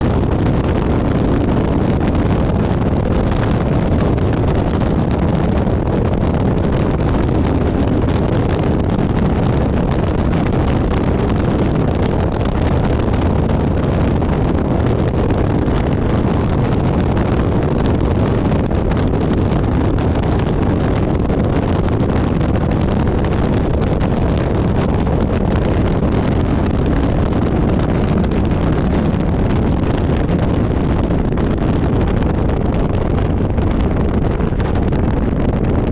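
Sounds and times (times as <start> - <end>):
wind noise on microphone: 0.0 - 35.9.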